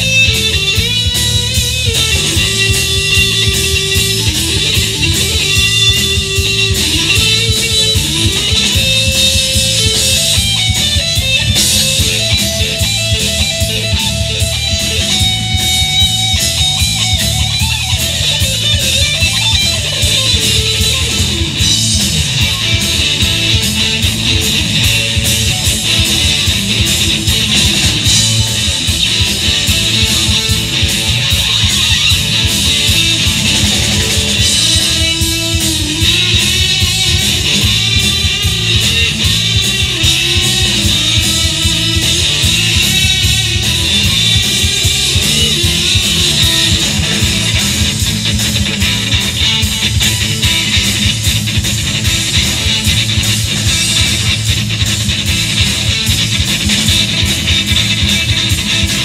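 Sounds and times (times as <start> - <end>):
drums: 0.0 - 59.0
electric bass: 0.0 - 59.0
lead electric guitar melody: 0.0 - 59.0.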